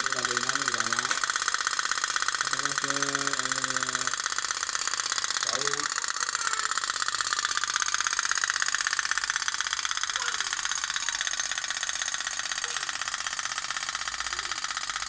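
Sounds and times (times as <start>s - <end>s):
toy pop-pop boat engine putting: 0.0s - 15.0s.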